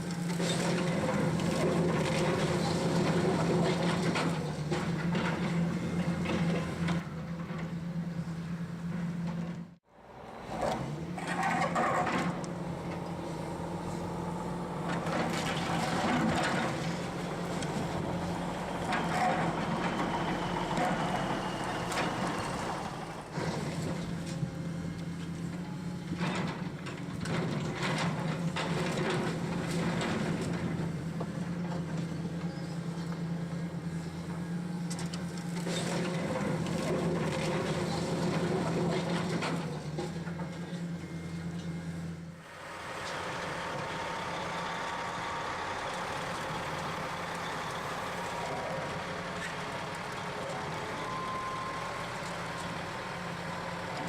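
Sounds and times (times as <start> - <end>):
demolition machine engine running: 0.0 - 54.0.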